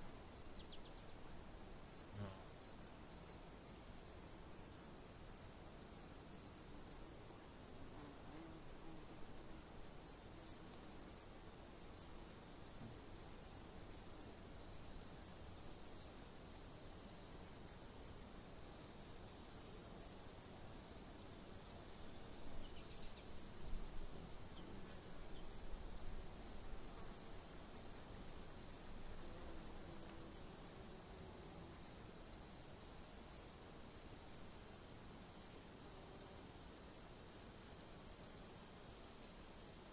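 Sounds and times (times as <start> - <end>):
crickets chirping: 0.0 - 39.8.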